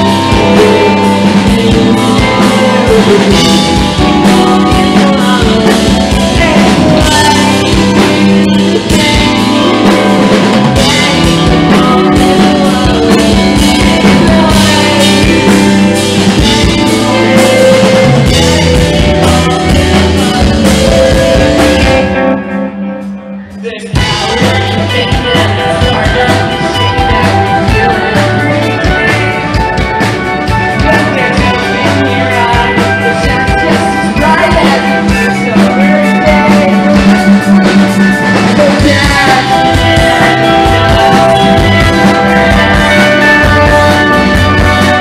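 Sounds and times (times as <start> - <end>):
drum kit: 0.0 - 45.0
electric bass: 0.0 - 45.0
electric guitar: 0.0 - 45.0.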